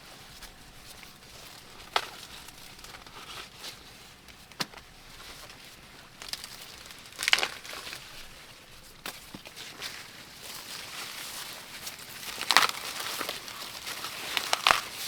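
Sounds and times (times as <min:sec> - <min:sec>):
dry material crinkling: 0:00.1 - 0:15.0.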